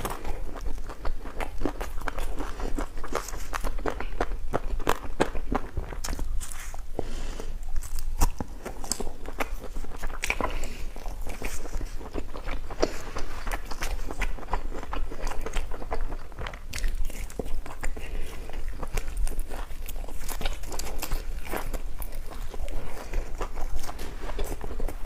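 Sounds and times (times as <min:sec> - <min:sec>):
person chewing and biting food: 0:00.0 - 0:25.0.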